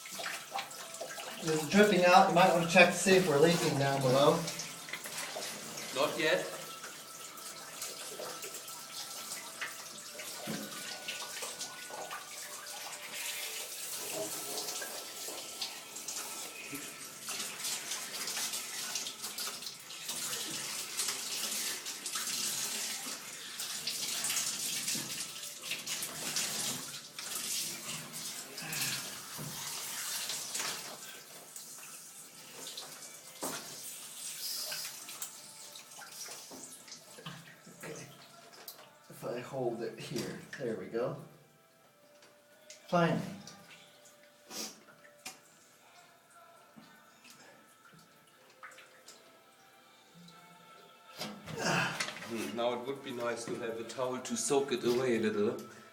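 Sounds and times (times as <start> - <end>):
water trickling from pipe: 0.0 - 41.0, 42.0 - 55.8.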